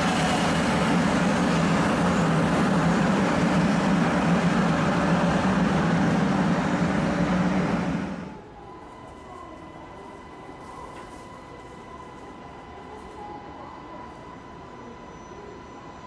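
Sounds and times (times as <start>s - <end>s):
bullet train passing: 0.0s - 16.0s.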